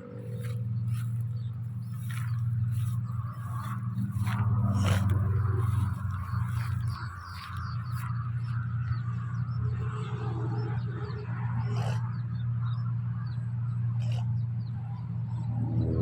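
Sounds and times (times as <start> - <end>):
harvester engine hum: 0.0 - 16.0.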